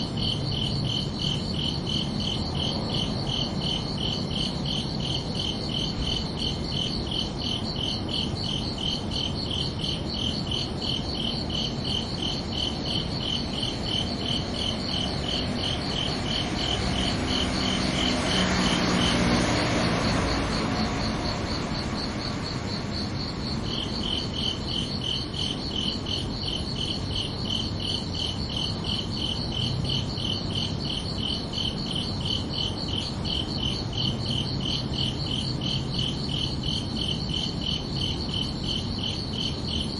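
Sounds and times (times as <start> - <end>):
high-pitched cricket chirping: 0.0 - 39.9
lower-pitched cricket chirping: 0.0 - 39.9.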